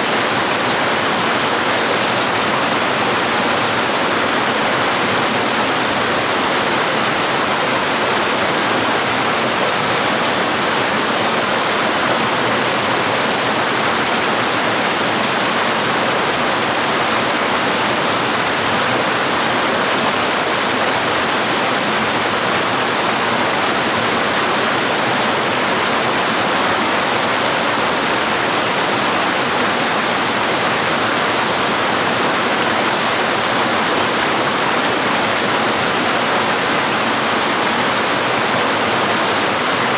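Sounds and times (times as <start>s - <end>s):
waterfall and stream flowing: 0.0s - 39.9s.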